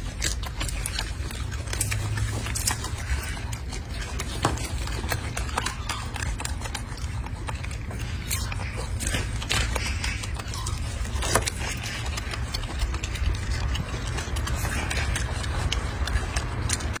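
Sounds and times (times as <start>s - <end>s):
monkey chewing crisp fruit: 0.0s - 17.0s.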